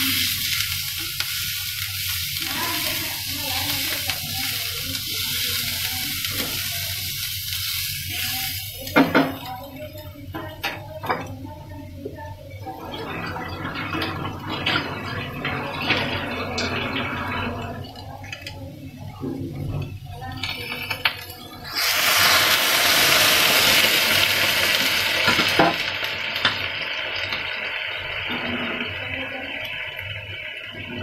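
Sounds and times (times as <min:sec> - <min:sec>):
onions sizzling in oil: 0:00.0 - 0:31.0
water hissing in hot oil: 0:00.0 - 0:31.0.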